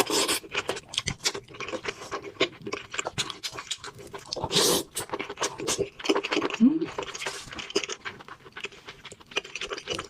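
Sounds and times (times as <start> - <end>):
chewing and mouth smacks: 0.0 - 10.0.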